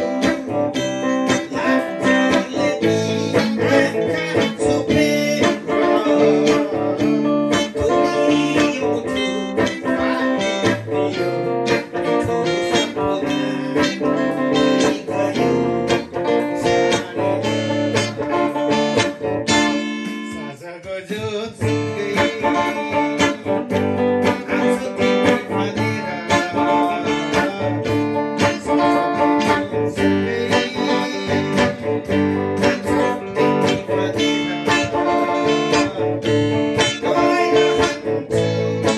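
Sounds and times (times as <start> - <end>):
electric guitar melody: 0.0 - 38.9.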